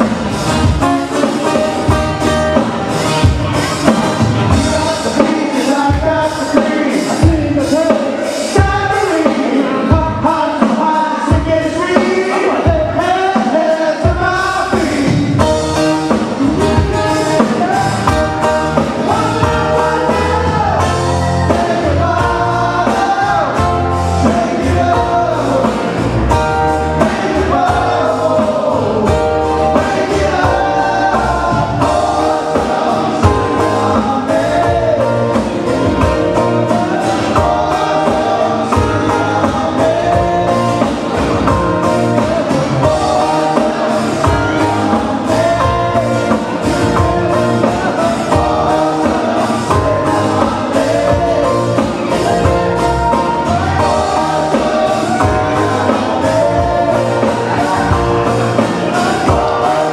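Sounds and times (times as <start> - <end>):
bass: 0.0 - 59.9
group singing: 0.0 - 59.9
guitar: 0.0 - 59.9
steady beat: 0.0 - 59.9.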